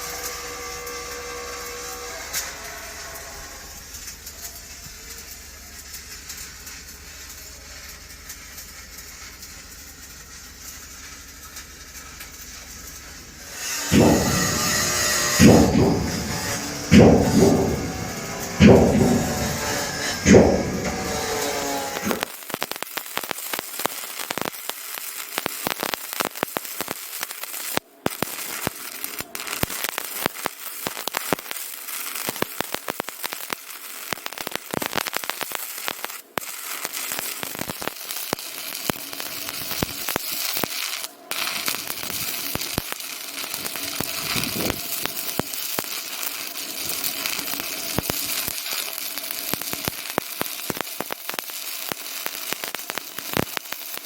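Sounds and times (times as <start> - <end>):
solder crackling and sizzling: 0.0 - 54.0.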